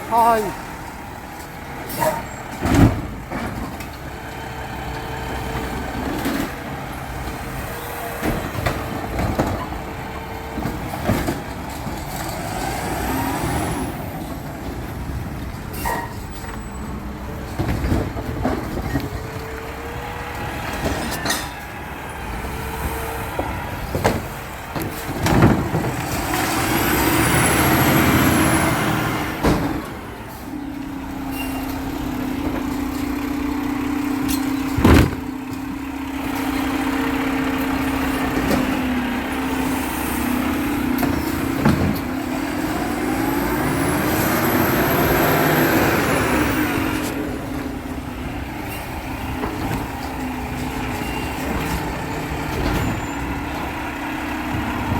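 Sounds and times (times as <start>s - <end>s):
garbage truck engine: 0.0s - 54.9s.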